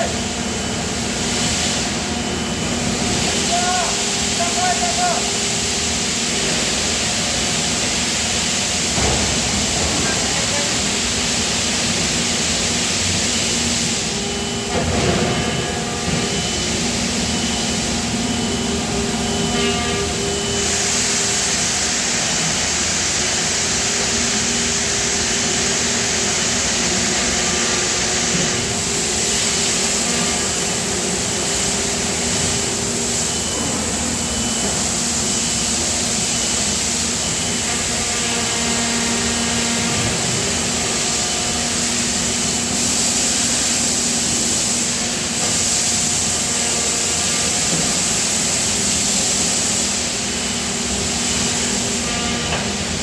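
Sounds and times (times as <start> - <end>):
machinery hum and hiss: 0.0 - 53.0.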